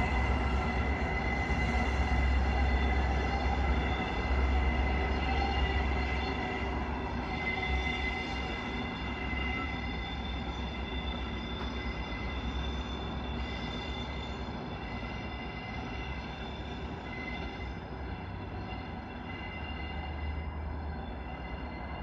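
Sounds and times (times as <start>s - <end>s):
deep locomotive engine rumble: 0.0s - 22.0s.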